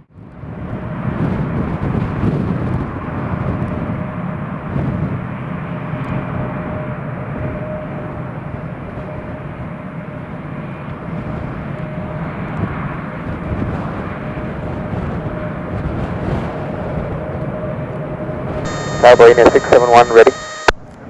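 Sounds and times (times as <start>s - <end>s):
wind rumbling on microphone: 0.1s - 6.6s, 7.3s - 19.0s
jet engine noise: 0.3s - 21.0s.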